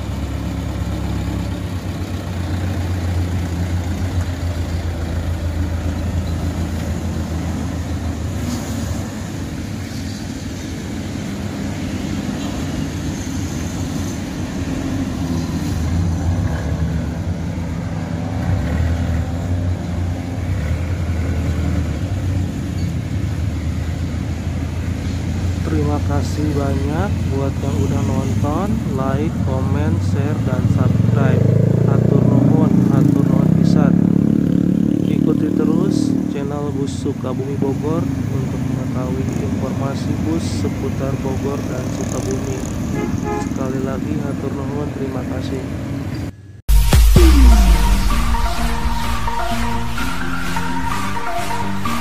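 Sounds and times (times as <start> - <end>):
bus engine droning: 0.0 - 52.0.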